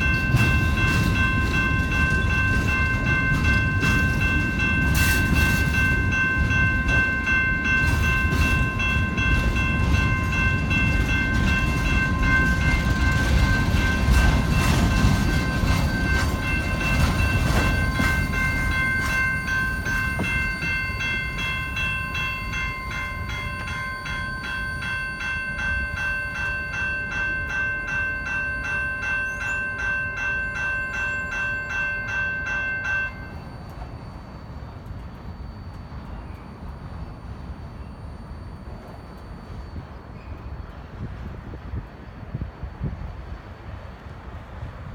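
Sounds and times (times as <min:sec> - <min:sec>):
high ringing tones: 0:00.0 - 0:40.3
train rumbling past: 0:00.0 - 0:44.9.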